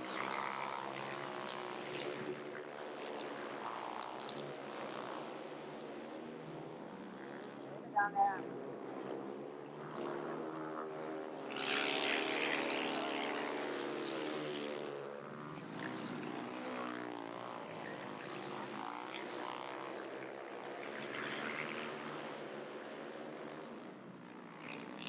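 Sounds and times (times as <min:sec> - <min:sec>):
motorcycle engines racing: 0:00.0 - 0:25.0.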